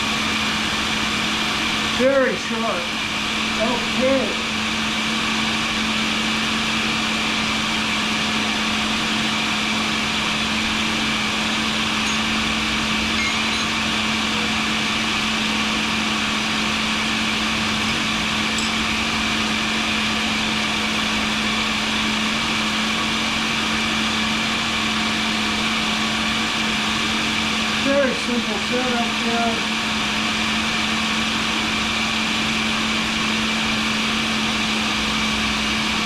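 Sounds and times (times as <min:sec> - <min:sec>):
grinder motor hum: 0:00.0 - 0:36.0.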